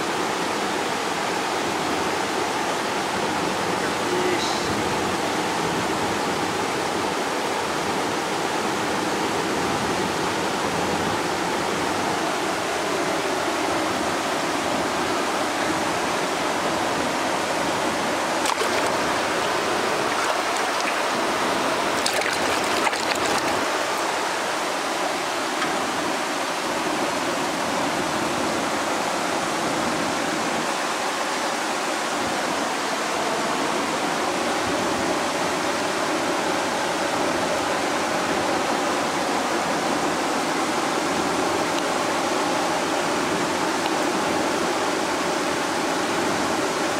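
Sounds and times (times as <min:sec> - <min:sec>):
water rushing over a weir: 0:00.0 - 0:46.9.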